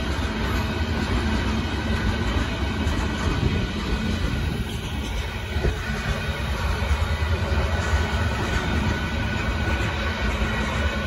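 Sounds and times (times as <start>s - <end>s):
steel wheels clattering on rails: 0.0s - 11.0s.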